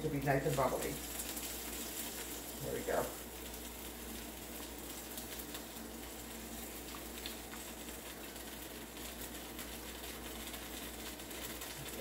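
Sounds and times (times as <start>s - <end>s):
batter sizzling on griddle: 0.0s - 12.0s.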